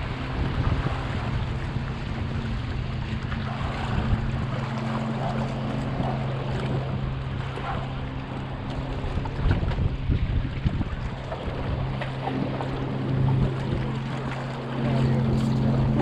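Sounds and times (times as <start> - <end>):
boat motor humming: 0.0 - 16.0
water noise: 0.0 - 16.0
wind: 0.0 - 16.0.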